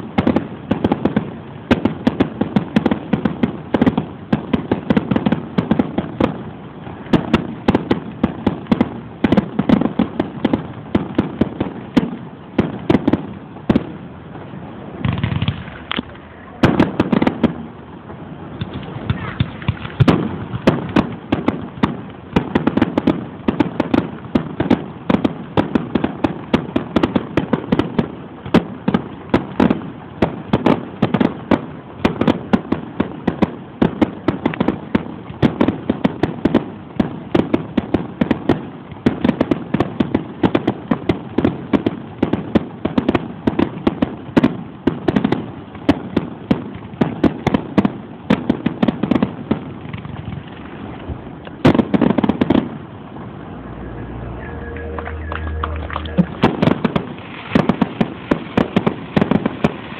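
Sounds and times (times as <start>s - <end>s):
fireworks banging and crackling: 0.0s - 59.9s.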